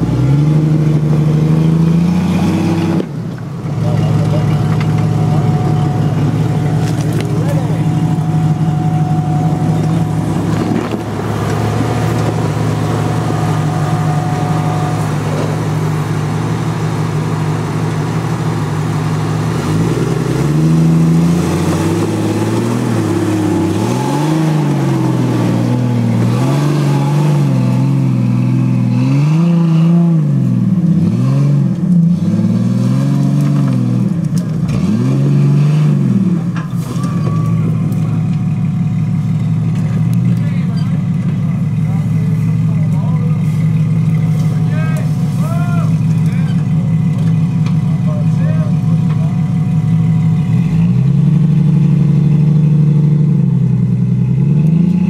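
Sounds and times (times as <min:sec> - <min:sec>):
engine labouring and revving: 0:00.0 - 0:55.0.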